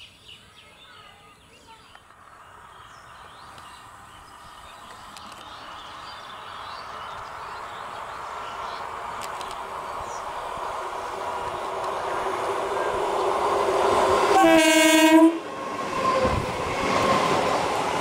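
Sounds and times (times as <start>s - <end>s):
electric train approaching on rails: 2.0s - 18.0s.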